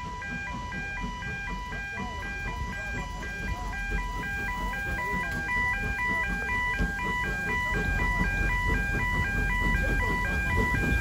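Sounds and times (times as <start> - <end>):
level crossing alarm: 0.0 - 11.0.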